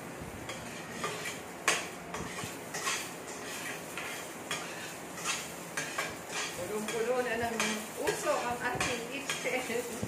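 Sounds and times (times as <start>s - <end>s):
onions sizzling in oil: 0.0s - 10.0s
spatula scraping frying pan: 0.5s - 10.0s.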